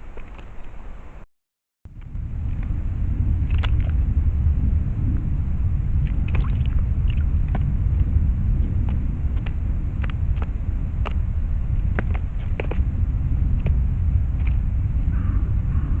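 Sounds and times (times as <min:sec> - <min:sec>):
steady low rumble: 0:01.9 - 0:16.0.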